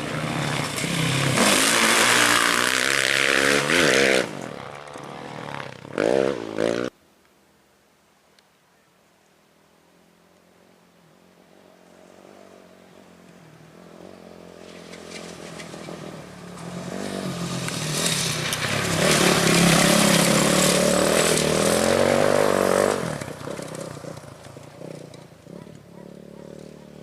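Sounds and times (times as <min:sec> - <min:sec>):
off-road motorcycle engine revving: 0:00.0 - 0:06.9, 0:12.1 - 0:27.0.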